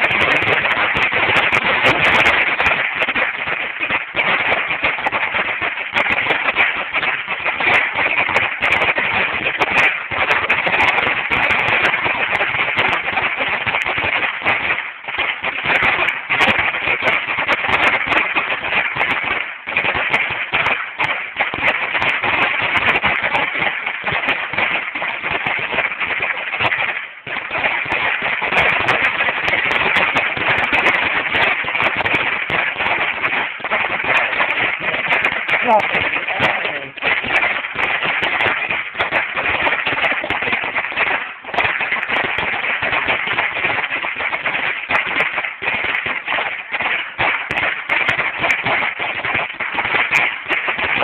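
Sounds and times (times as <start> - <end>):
firecracker strip crackling bangs: 0.0 - 51.0.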